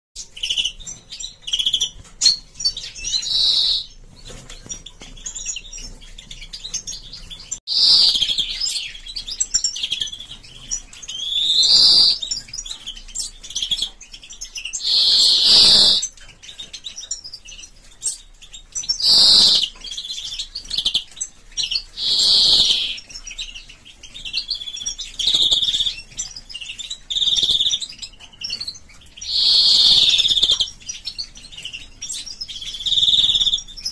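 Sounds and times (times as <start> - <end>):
finches chirping: 0.2 - 33.9.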